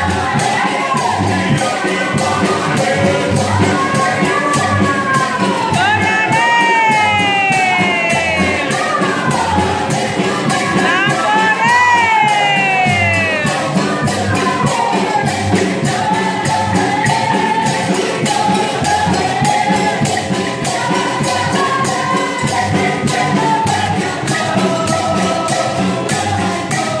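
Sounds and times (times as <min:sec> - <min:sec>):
electric guitar: 0:00.0 - 0:24.5
steady percussion beat: 0:00.0 - 0:27.0
woman singing into a microphone: 0:00.1 - 0:27.0.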